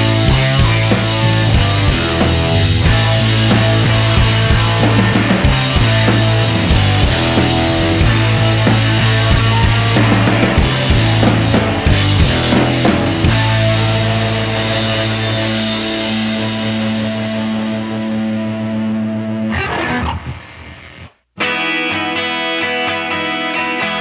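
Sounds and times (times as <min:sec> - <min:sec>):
guitar piece: 0:00.0 - 0:24.0
rock music with guitar and drums: 0:00.0 - 0:24.0.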